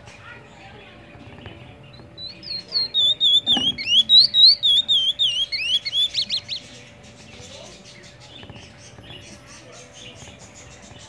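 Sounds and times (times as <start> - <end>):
bird singing whistled notes: 1.9 - 11.0.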